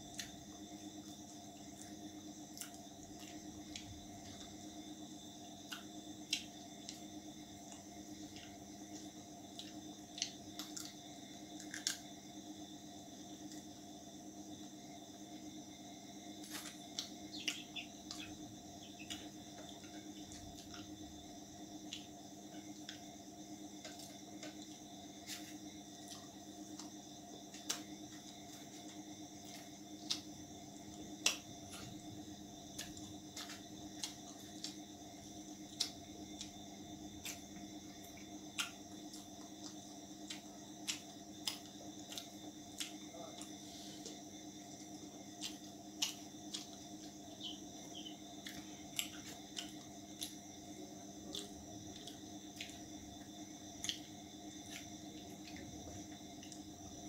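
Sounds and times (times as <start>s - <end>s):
man chewing food: 0.0s - 57.0s
steady background hum: 0.0s - 57.0s.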